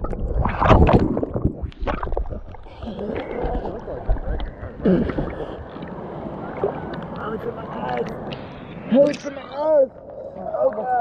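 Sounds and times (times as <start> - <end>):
water sloshing: 0.0 - 10.9.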